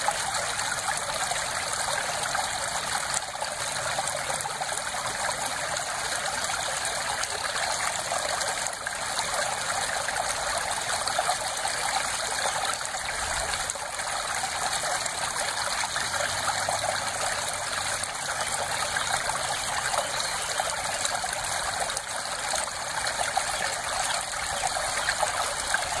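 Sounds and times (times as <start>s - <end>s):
stream babbling over stones: 0.0s - 26.0s.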